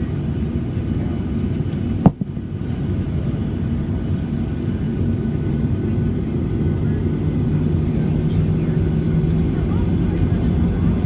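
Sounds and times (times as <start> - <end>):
airplane engines rumbling: 0.0 - 11.0.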